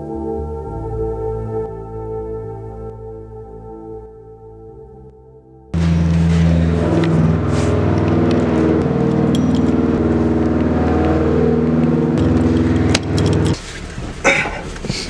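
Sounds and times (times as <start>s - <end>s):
sustained synth chords: 0.0s - 13.6s.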